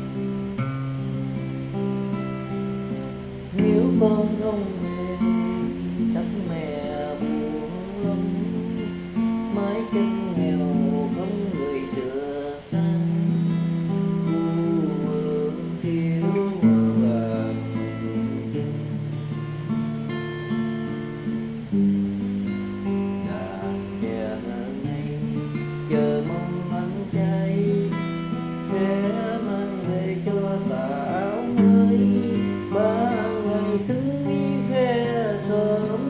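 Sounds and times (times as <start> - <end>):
acoustic guitar played slowly: 0.0 - 36.0.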